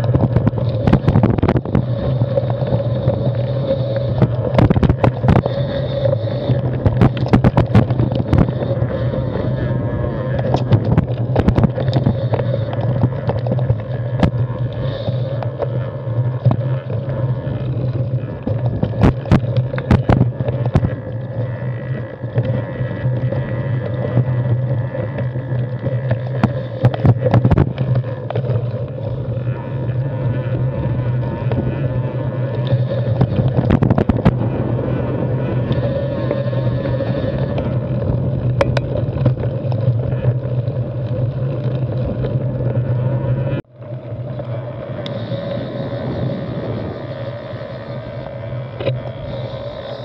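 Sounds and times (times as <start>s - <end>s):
bike knocking and rattling: 0.0s - 45.8s
bike tyres rumbling on dirt: 0.0s - 50.0s
wind on camera: 0.0s - 50.0s.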